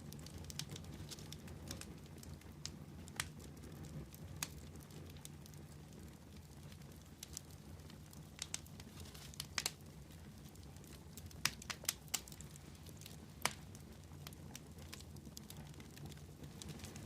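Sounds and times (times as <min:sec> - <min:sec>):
low rumble of flame: 0:00.0 - 0:17.0
wood fire snaps and pops: 0:00.0 - 0:17.0.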